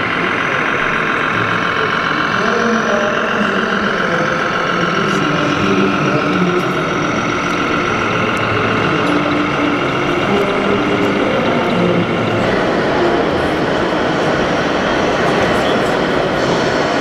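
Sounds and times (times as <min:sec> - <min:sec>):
hum of crowded hall: 0:00.0 - 0:17.0
truck engine at low speed: 0:00.0 - 0:17.0.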